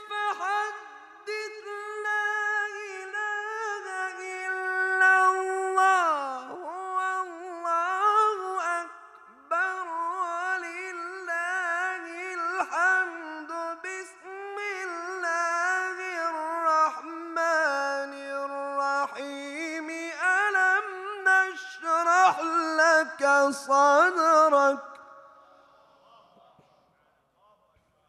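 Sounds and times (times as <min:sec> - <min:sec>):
man reciting melodically: 0:00.0 - 0:26.8.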